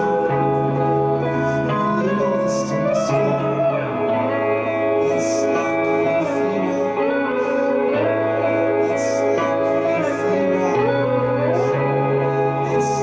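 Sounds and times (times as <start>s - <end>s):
low bass: 0.0s - 13.0s
psychedelic band with guitar: 0.0s - 13.0s.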